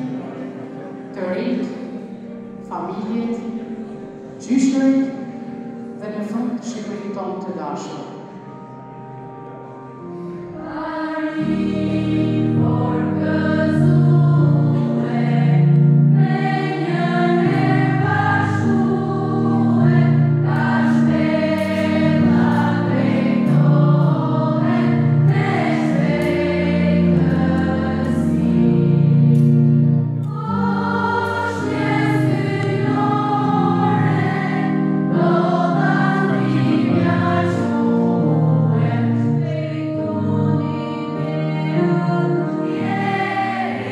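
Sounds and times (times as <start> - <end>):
choir singing a hymn: 0.0 - 6.9, 7.6 - 43.9.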